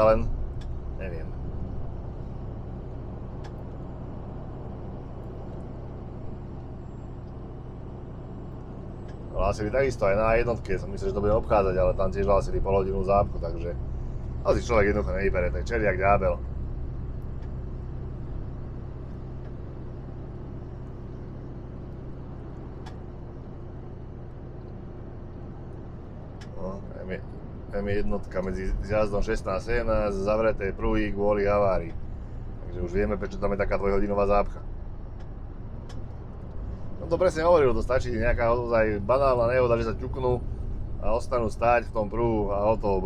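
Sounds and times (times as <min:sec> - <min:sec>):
lorry engine hum: 0:00.0 - 0:43.0
tyre and road noise: 0:00.0 - 0:43.0.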